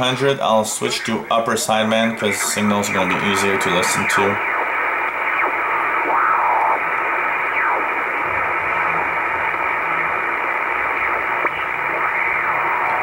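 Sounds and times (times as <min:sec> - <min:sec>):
radio hiss and static: 0:00.0 - 0:13.0.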